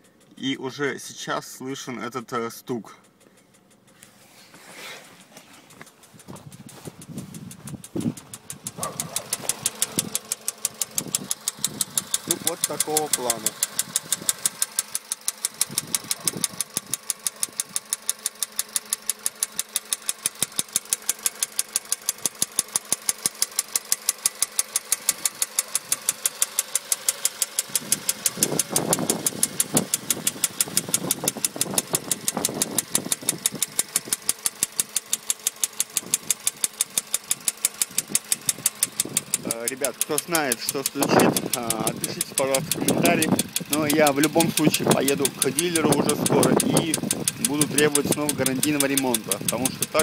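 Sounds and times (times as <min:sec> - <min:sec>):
car engine idling with knock: 0:00.0 - 0:00.4, 0:02.8 - 0:50.0.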